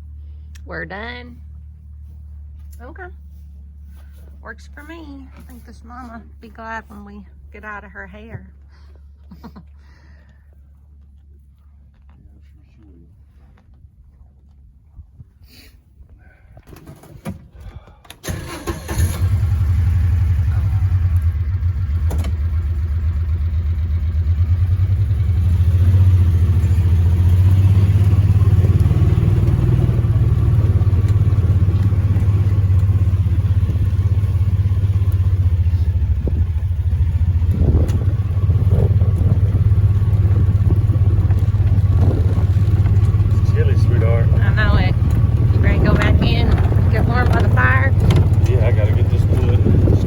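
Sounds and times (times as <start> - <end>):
vehicle engine starting and running: 0.0 - 11.1, 16.6 - 50.0.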